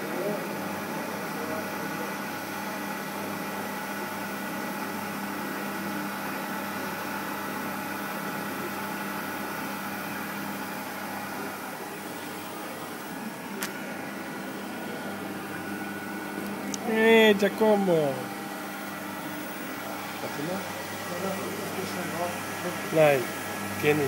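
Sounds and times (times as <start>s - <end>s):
milling machine humming: 0.0s - 24.0s.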